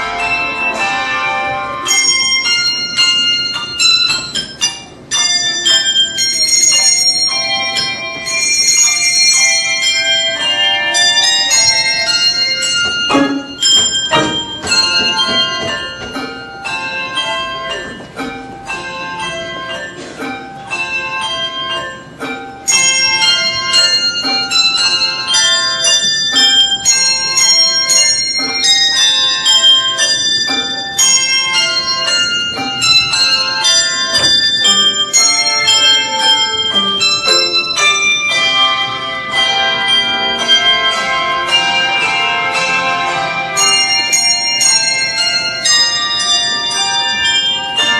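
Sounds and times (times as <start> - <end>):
handbell choir ringing: 0.0 - 47.9.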